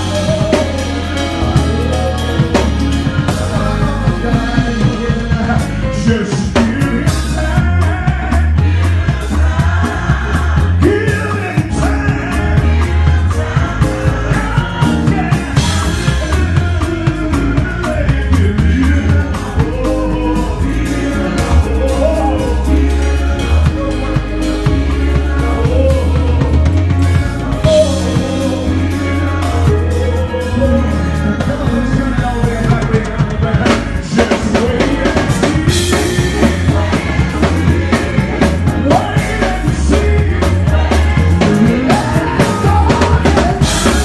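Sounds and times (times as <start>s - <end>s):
drum kit with cymbals: 0.0s - 44.0s
heavy bass line: 0.0s - 44.0s
voices singing gospel: 0.0s - 44.0s.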